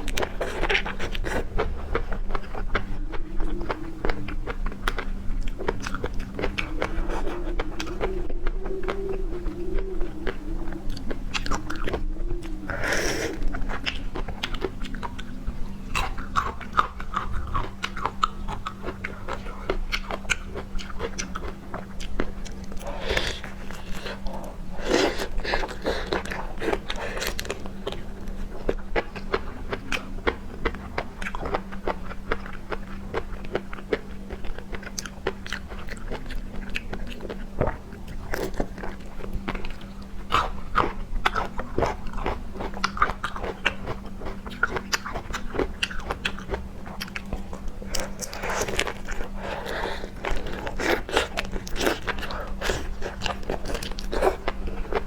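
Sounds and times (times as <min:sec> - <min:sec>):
chewing and crunching: 0:00.0 - 0:55.0
low hum: 0:00.0 - 0:55.0.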